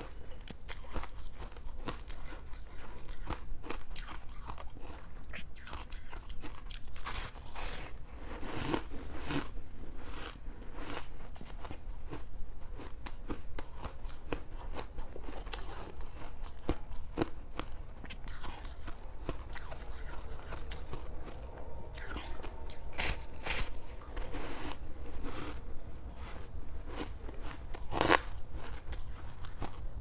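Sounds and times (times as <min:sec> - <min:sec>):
teeth crunching frost: 0:00.0 - 0:30.0.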